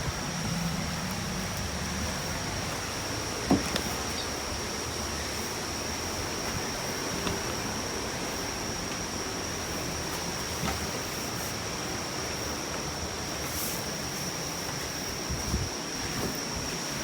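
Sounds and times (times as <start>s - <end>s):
wind and rain rushing: 0.0s - 17.0s.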